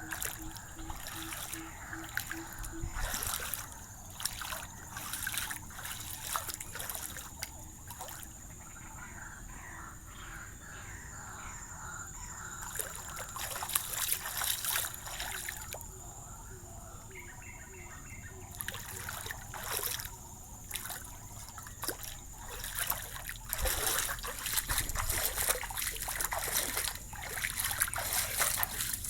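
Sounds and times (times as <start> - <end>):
floodwater trickling and splashing: 0.0 - 10.2, 12.2 - 29.0.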